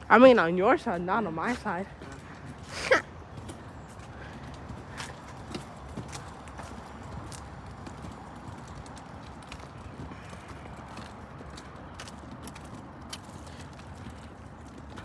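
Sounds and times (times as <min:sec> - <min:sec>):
footsteps of people walking: 0:00.0 - 0:15.0.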